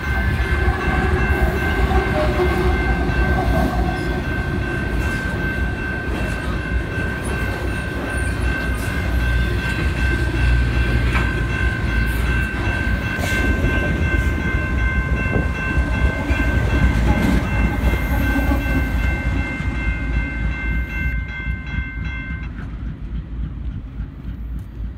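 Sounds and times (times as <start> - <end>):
high ringing tone: 0.0 - 22.6
train rumble and wheel clatter: 0.0 - 24.9.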